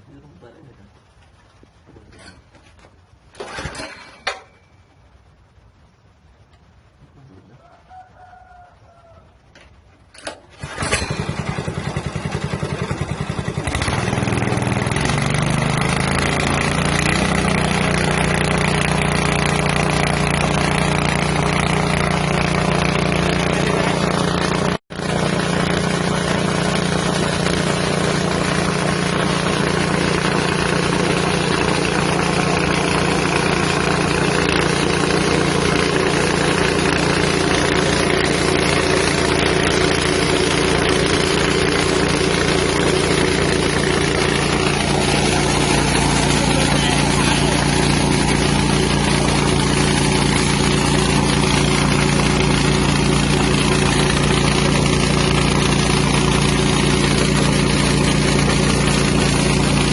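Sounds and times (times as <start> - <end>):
huller mechanical noise: 9.4 - 59.9
small engine running: 10.6 - 59.9.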